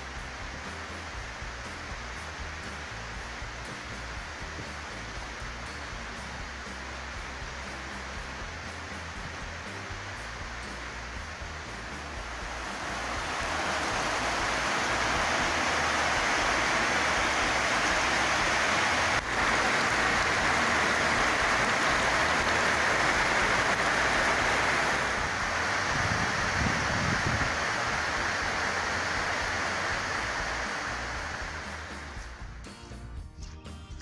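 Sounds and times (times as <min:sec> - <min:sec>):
heavy rain pouring: 0:00.0 - 0:32.6.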